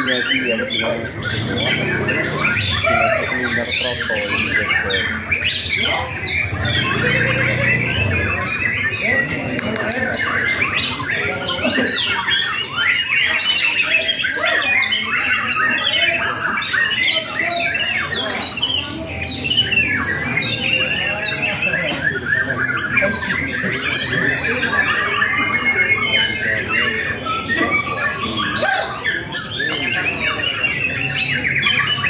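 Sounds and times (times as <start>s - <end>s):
many songbirds singing: 0.0s - 32.0s.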